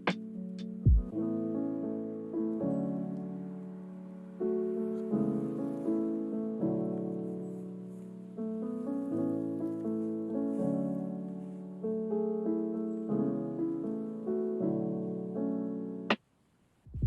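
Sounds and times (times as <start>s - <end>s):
gentle piano music: 0.0s - 16.2s.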